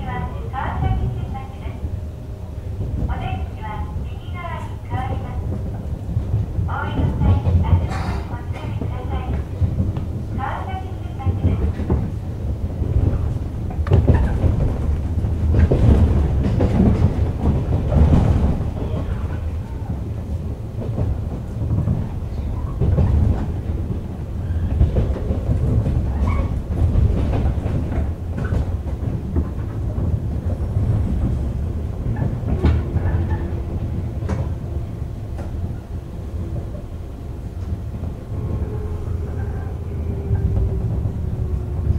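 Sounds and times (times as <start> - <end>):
train low rumble: 0.0 - 41.9
wheels clattering over rail joints: 5.1 - 41.9.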